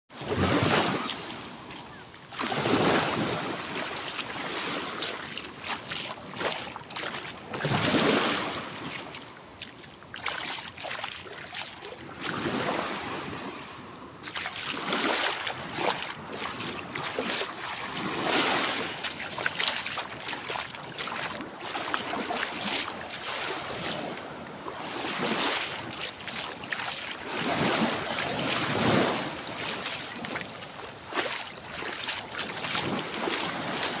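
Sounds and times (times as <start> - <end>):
sea waves breaking on beach: 0.1 - 34.0.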